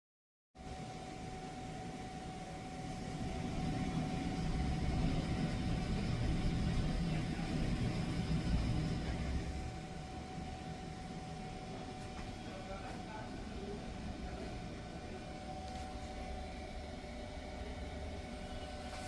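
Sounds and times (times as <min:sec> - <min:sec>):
steady whine: 0:00.6 - 0:19.0.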